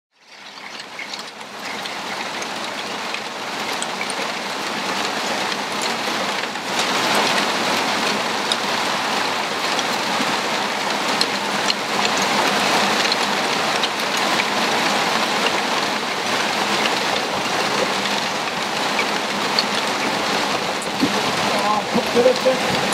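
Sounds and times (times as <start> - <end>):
hail falling on grass and foliage: 0.2 - 22.9.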